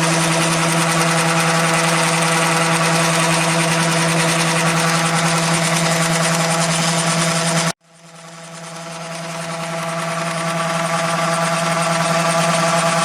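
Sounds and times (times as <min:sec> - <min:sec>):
milling machine humming and rattling: 0:00.0 - 0:13.0.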